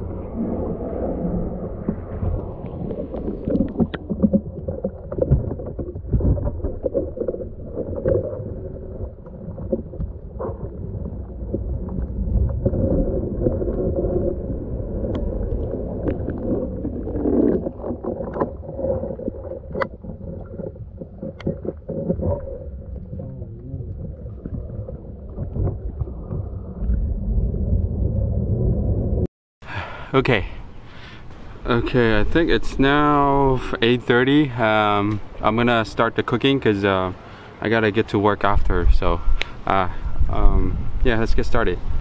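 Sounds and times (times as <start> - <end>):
muffled underwater water sloshing: 0.0 - 29.3, 30.6 - 42.0.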